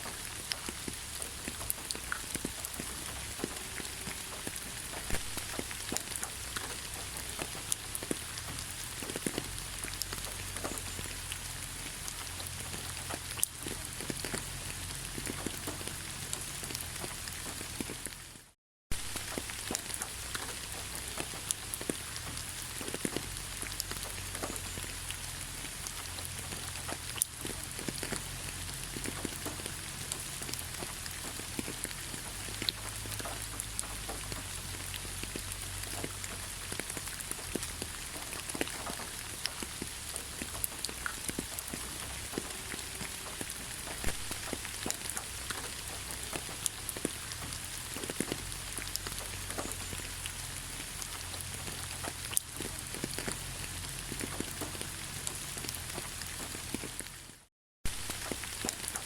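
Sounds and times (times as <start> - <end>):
rain drops striking hard surface: 0.0 - 59.0.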